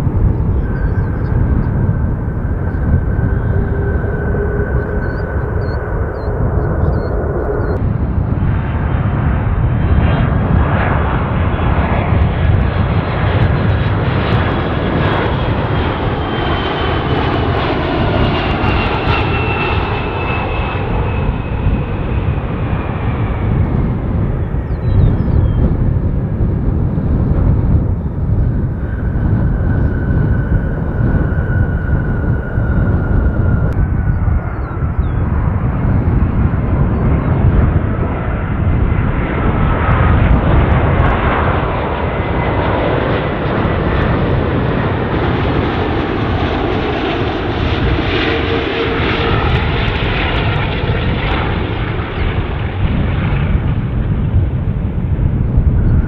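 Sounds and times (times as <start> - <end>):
jet airliner passing low: 0.0 - 56.0.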